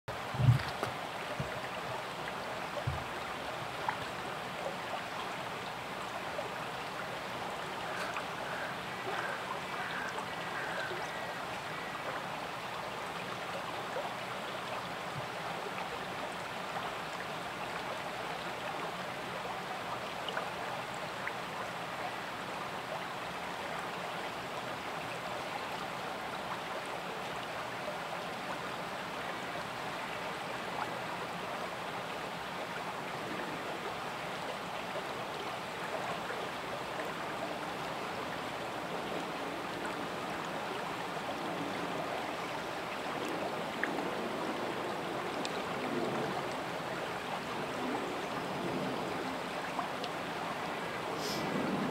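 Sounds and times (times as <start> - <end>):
stream flowing over rocks: 0.1 - 51.9.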